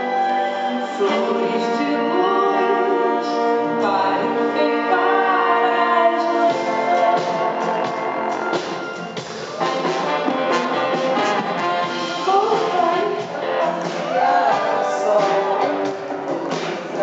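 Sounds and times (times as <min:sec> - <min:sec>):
person singing: 0:00.0 - 0:10.1, 0:10.8 - 0:17.0
live band playing pop song: 0:00.0 - 0:17.0.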